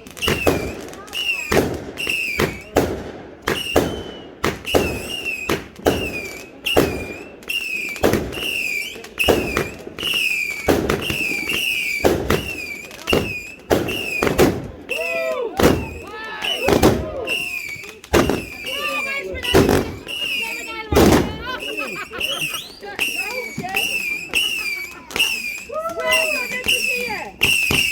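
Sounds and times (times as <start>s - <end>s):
fireworks bangs: 0.0s - 27.9s
fireworks whistle: 0.0s - 27.9s.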